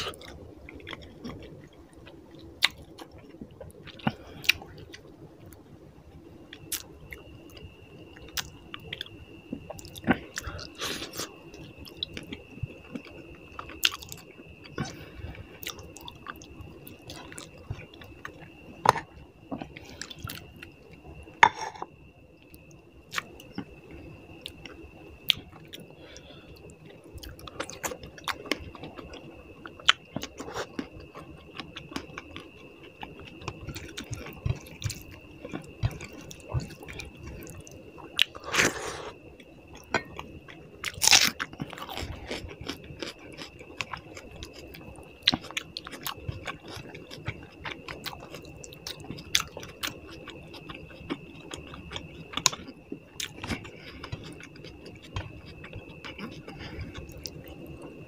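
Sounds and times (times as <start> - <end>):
person chewing and smacking: 0.0 - 1.8, 2.6 - 5.1, 6.5 - 7.6, 8.2 - 15.0, 15.6 - 20.6, 27.2 - 57.6.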